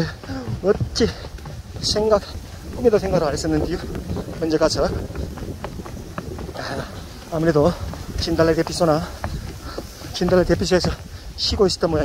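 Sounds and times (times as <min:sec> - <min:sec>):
footsteps on trail: 0:00.0 - 0:12.0.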